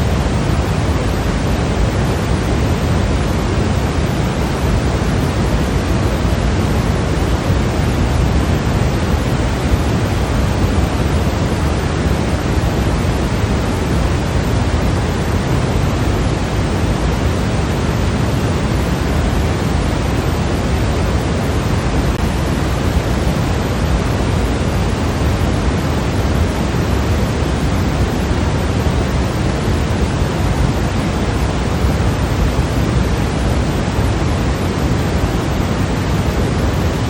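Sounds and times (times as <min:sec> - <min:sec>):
electronic white noise: 0:00.0 - 0:37.0.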